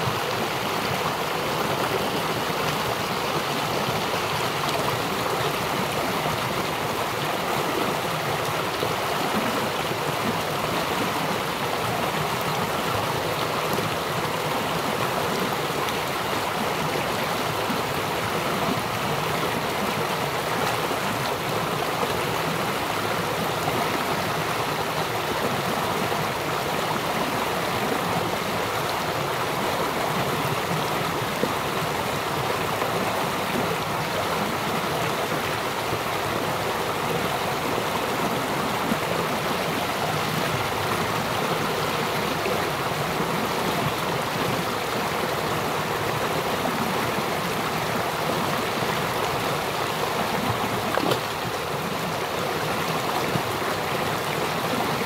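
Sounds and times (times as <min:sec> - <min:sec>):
small stream flowing: 0:00.0 - 0:55.0.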